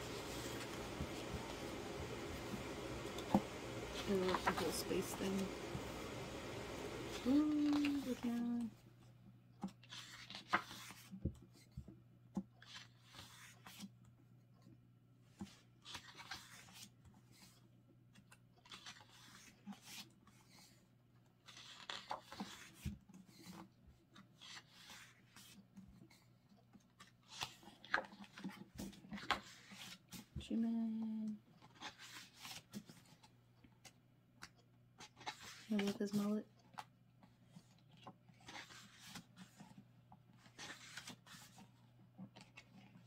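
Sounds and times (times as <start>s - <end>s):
pages being turned: 0.0s - 8.7s, 9.6s - 11.7s, 12.6s - 13.9s, 15.4s - 17.6s, 18.2s - 20.8s, 21.4s - 23.6s, 24.2s - 30.3s, 31.6s - 43.0s.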